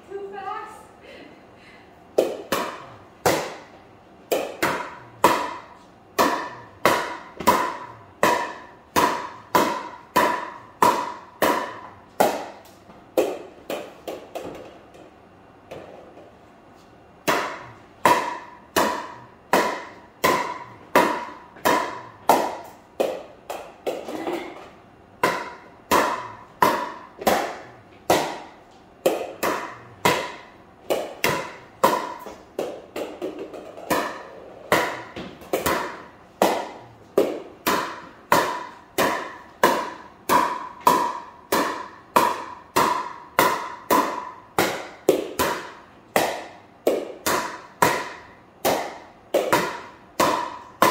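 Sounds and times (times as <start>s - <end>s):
paddle hitting plastic ball: 2.2s - 15.0s, 17.2s - 24.6s, 25.2s - 50.9s.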